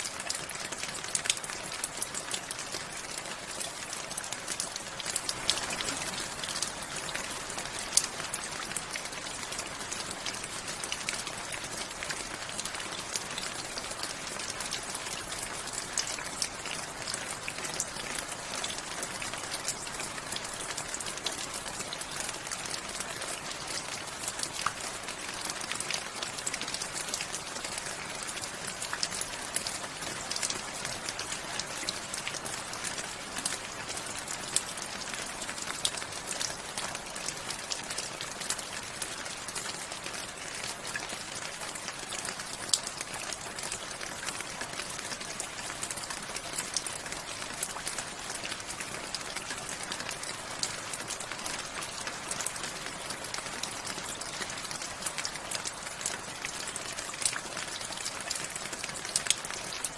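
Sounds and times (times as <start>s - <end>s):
raindrops ticking on a surface: 0.0s - 59.9s
steady rain: 0.0s - 59.9s.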